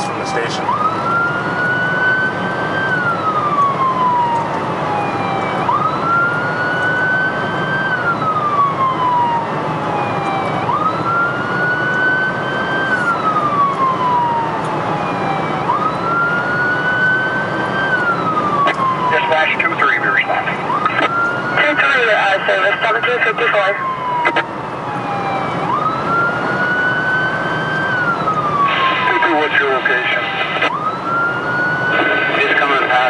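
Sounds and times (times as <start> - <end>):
emergency siren wailing: 0.0 - 33.0
road and engine noise: 0.0 - 33.0.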